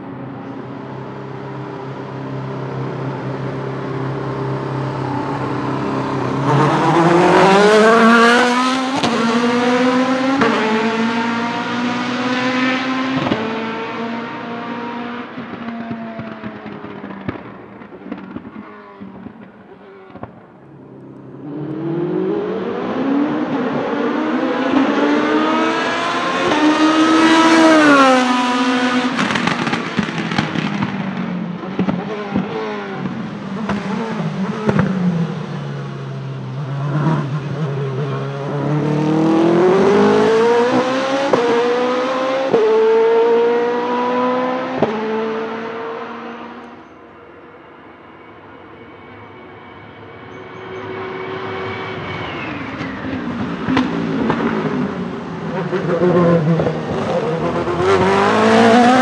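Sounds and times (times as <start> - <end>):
race car passing by: 0.8 - 17.0, 21.2 - 59.0
race car engine accelerating: 0.9 - 20.4, 21.0 - 46.9, 50.3 - 59.0.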